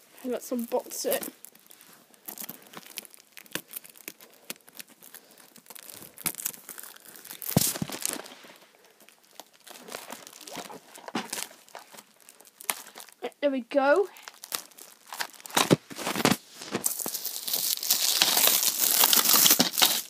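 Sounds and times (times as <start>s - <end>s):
plastic shrink-wrap crackling and tearing: 0.0s - 13.3s, 13.9s - 20.0s.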